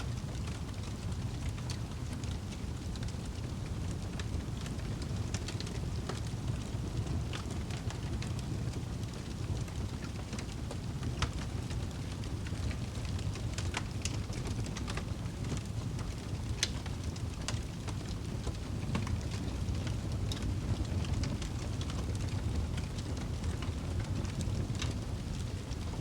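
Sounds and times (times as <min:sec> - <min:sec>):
fire crackling: 0:00.3 - 0:26.0.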